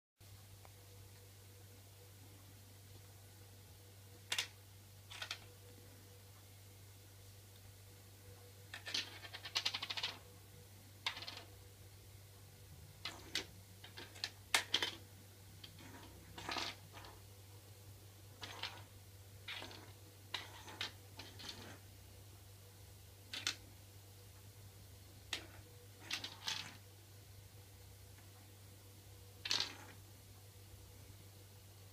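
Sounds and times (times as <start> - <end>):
faint low hum: 0.2 - 31.9.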